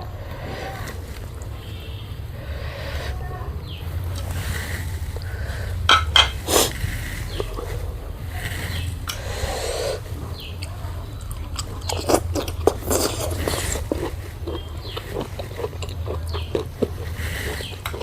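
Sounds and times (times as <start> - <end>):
crunching and chewing: 0.0 - 18.0
steady low hum: 0.0 - 18.0.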